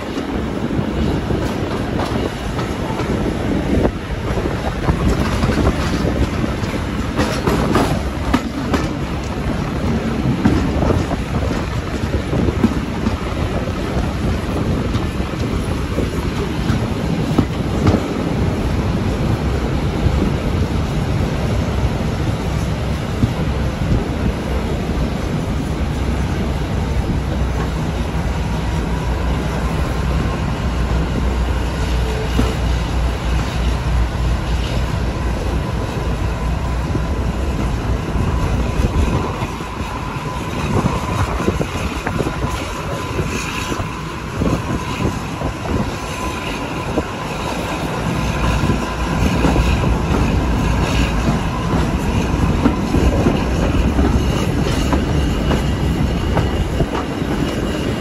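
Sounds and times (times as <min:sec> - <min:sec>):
diesel locomotive engine rumble: 0:00.0 - 0:58.0
train wheels on track: 0:00.0 - 0:58.0.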